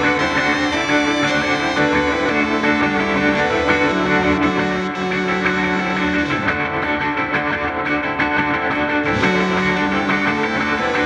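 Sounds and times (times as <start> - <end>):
electric bass: 0.0 - 11.0
electric guitar: 0.0 - 11.0
keyboards: 0.0 - 11.0.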